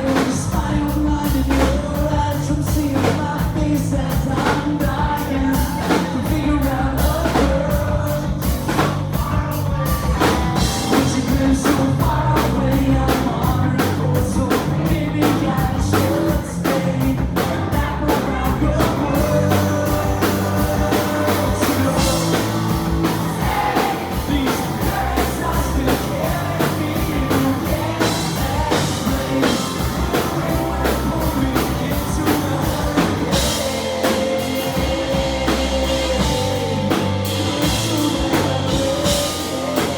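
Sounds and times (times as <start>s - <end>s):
drum kit beat: 0.0s - 39.9s
man singing lead vocal: 0.0s - 39.9s
rock band playing: 0.0s - 39.9s.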